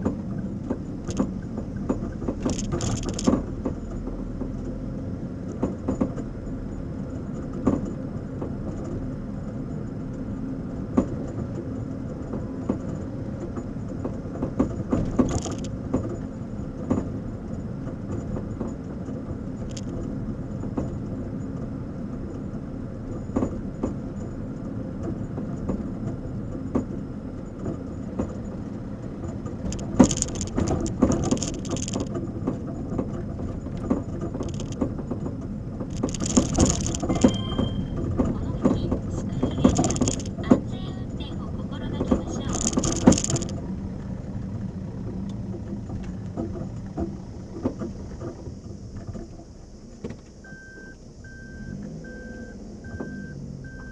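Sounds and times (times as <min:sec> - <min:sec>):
suspension clicks and knocks: 0:00.0 - 0:50.4
car road and engine rumble: 0:00.0 - 0:53.9.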